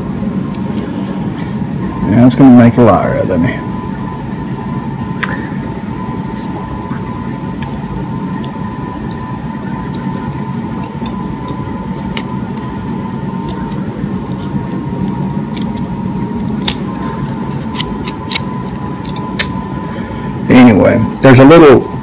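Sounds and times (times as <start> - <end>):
machine hum with whine: 0.0 - 22.0.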